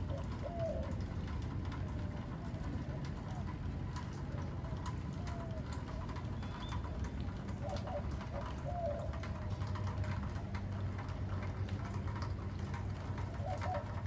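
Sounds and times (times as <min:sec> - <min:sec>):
rain pattering and dripping: 0:00.0 - 0:14.0.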